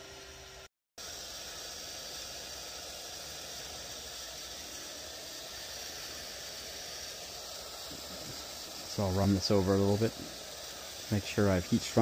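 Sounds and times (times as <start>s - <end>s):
hot air gun hissing: 0.0s - 12.0s.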